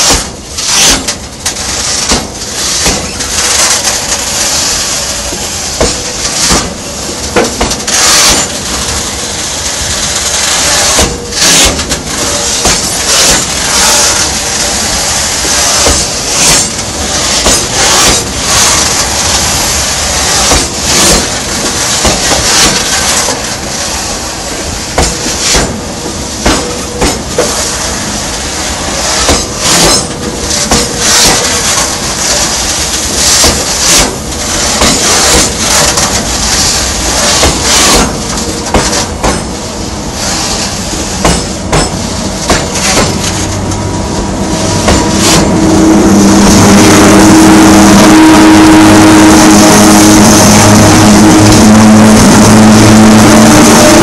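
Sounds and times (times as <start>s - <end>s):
continuous train rumble: 0.0s - 54.0s
train wheels clacking over track: 0.0s - 54.0s.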